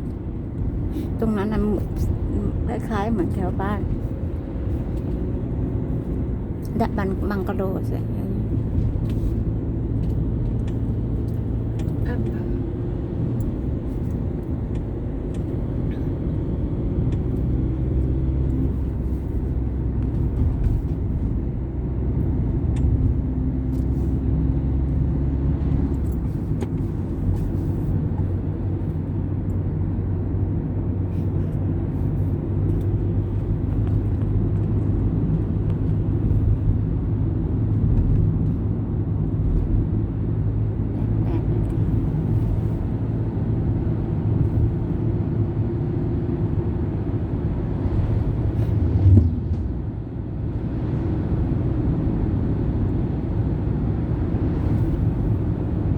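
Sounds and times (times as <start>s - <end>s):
car engine: 0.0s - 55.9s
road rumble: 0.0s - 55.9s.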